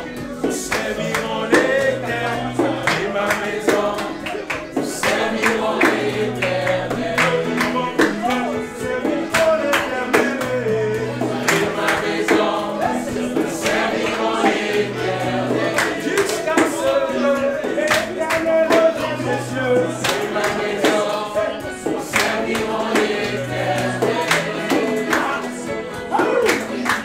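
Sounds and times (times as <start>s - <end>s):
instrumental accompaniment: 0.0s - 27.0s
percussive beat: 0.0s - 27.0s
voices singing a hymn: 0.0s - 27.0s.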